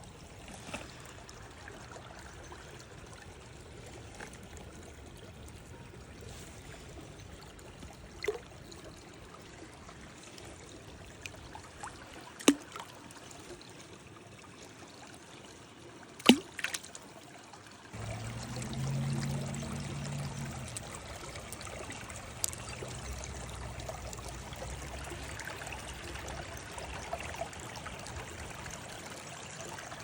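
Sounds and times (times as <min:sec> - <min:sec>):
creek water running: 0:00.0 - 0:30.0.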